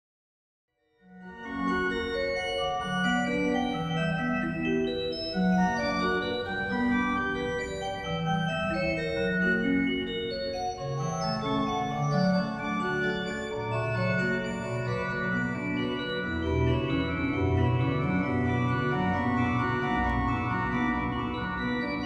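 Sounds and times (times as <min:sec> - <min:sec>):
sustained chord music: 0:01.4 - 0:22.0.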